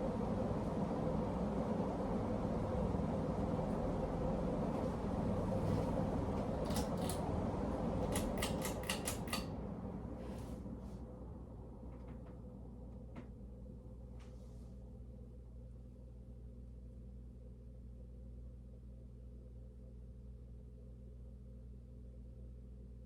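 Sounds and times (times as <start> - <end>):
ceiling fan humming: 0.0 - 21.5.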